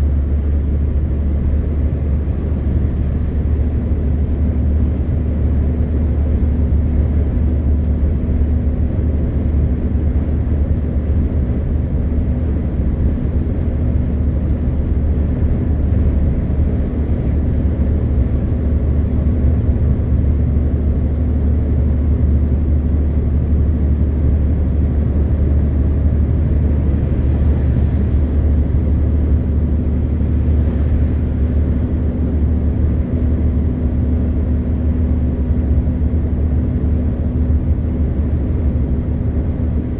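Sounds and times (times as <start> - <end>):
diesel truck engine droning: 0.0 - 39.9
road noise: 0.0 - 39.9.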